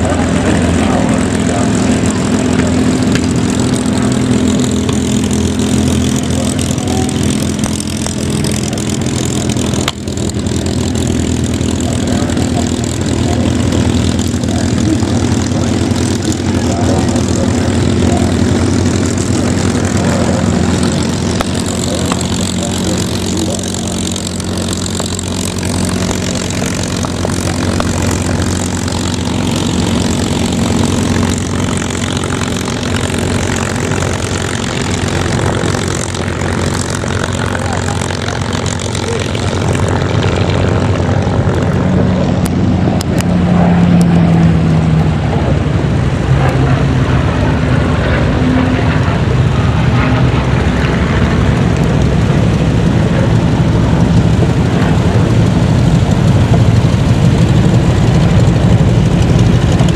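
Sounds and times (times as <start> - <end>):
propeller plane engine throbbing: 0.0 - 59.9
radial engine plane taxiing: 0.0 - 59.9.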